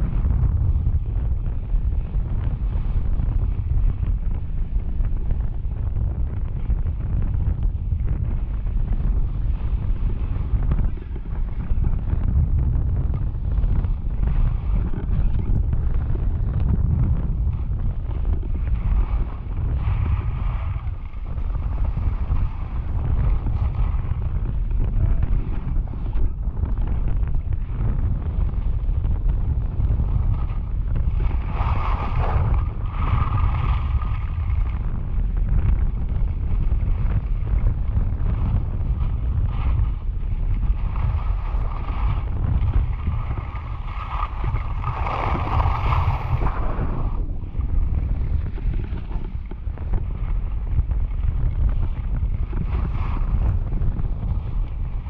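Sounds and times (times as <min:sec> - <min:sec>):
wind buffeting microphone: 0:00.0 - 0:55.0
skis scraping on packed snow: 0:08.3 - 0:55.0.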